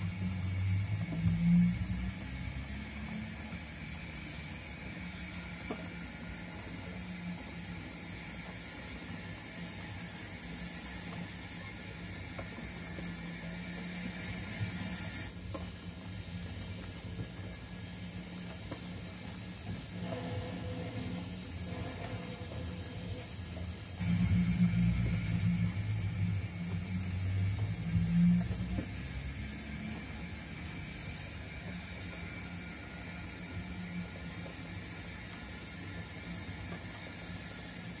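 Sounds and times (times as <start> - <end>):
model train motor hum: 0.0 - 38.0
wagon wheels rolling on track: 0.0 - 38.0.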